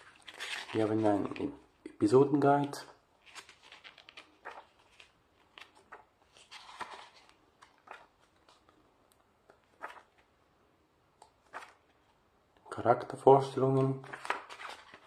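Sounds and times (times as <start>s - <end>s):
booklet pages turning: 0.0s - 1.7s, 2.3s - 10.4s, 11.2s - 12.2s, 13.6s - 15.0s.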